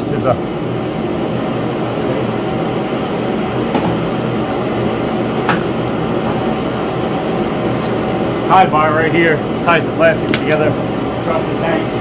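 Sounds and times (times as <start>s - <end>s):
heater roaring: 0.0s - 12.0s.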